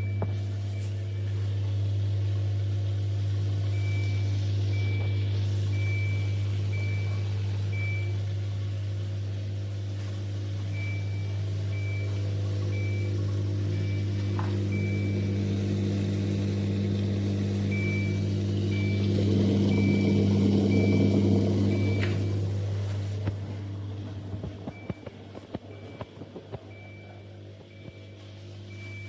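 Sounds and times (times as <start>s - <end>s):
dishwasher humming: 0.0s - 29.0s.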